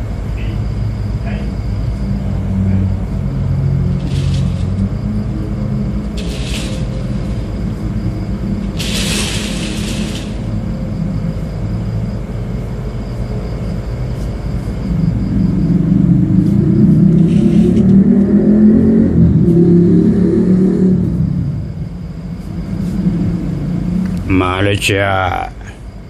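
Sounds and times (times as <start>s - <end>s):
metal singing bowl humming: 0.0s - 26.0s.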